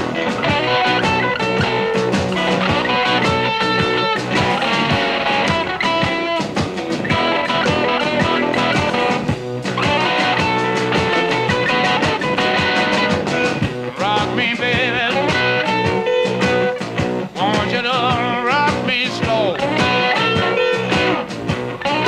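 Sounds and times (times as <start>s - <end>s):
distorted electric guitar: 0.0s - 22.0s
slide guitar lines: 0.0s - 22.0s
steady drum beat: 0.0s - 22.0s.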